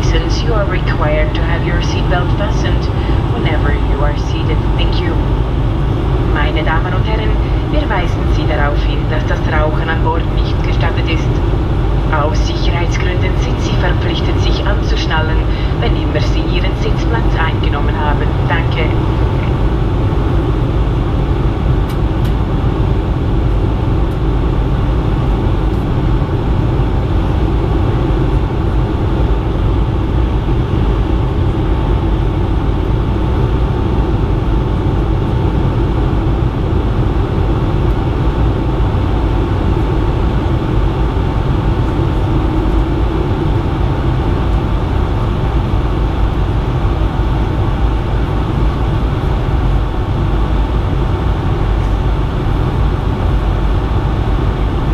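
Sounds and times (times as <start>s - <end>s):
airplane cabin airflow and engines: 0.0s - 54.9s.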